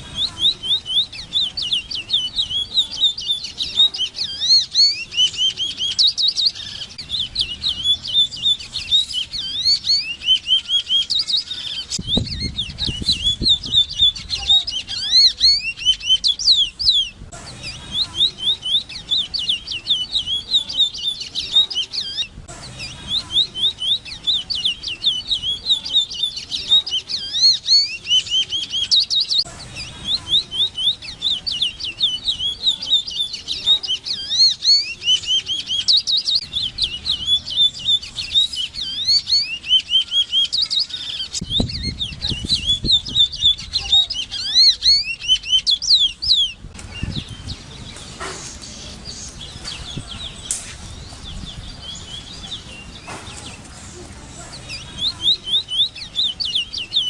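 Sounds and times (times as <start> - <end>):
bird singing whistled notes: 0.0 - 53.7, 54.4 - 57.0.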